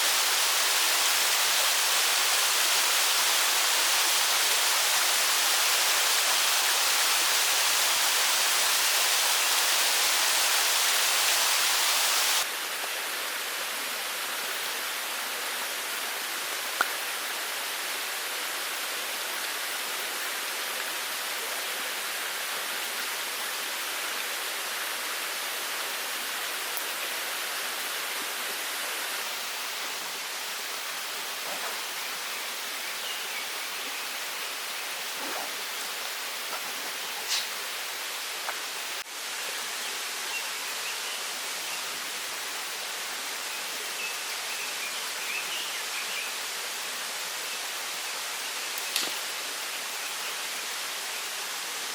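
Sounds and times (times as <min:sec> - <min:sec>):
stream rushing over rocks: 0:00.0 - 0:15.1, 0:15.8 - 0:45.8.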